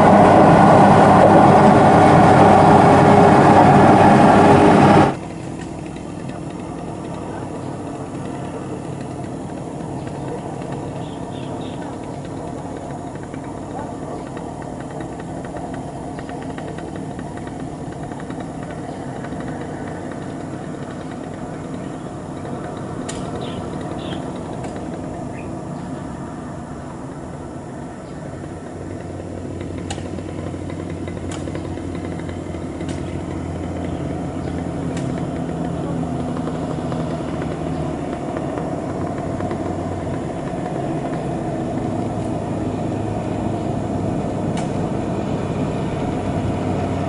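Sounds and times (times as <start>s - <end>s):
diesel truck engine hum: 0.0s - 47.0s.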